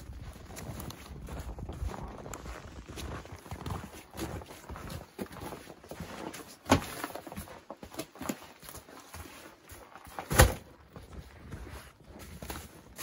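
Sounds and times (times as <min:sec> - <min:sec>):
footsteps in rubber boots on dirt: 0:00.0 - 0:13.0.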